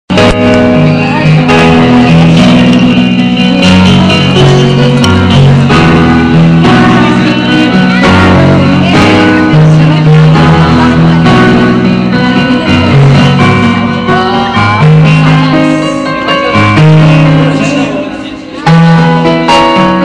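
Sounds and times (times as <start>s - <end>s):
bass line: 0.1s - 20.0s
keyboard: 0.1s - 20.0s
person singing: 0.1s - 20.0s.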